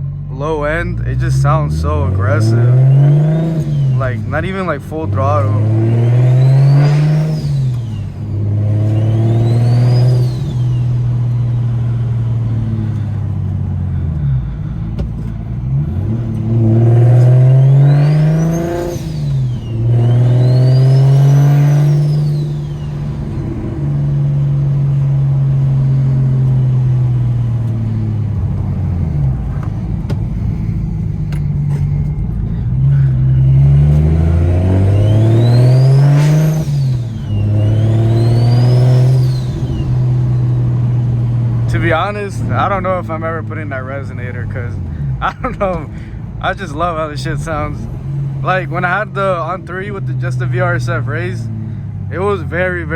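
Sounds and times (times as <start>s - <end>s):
car engine revving: 0.0s - 52.9s
turbo whine: 1.0s - 44.4s.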